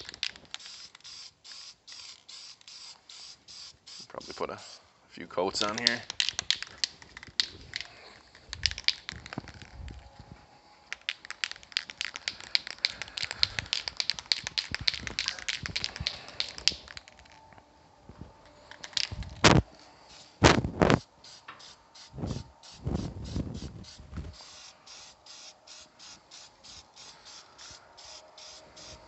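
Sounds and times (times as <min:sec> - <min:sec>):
spray can bursts: 0:00.0 - 0:04.8, 0:05.6 - 0:09.9, 0:10.9 - 0:17.3, 0:18.7 - 0:29.0
spray can rattling: 0:00.0 - 0:04.8, 0:05.5 - 0:10.0, 0:10.9 - 0:17.4, 0:18.6 - 0:29.0.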